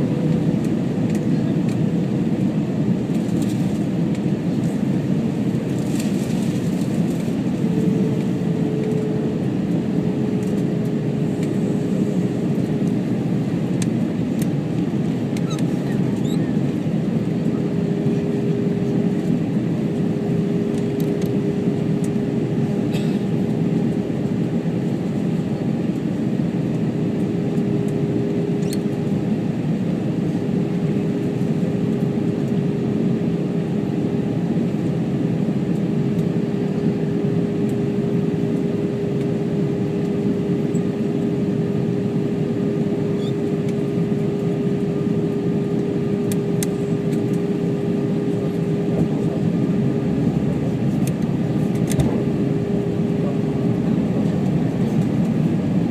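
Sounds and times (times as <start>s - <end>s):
airplane engine and airflow noise: 0.0s - 55.9s
constant hum tone: 0.0s - 55.9s.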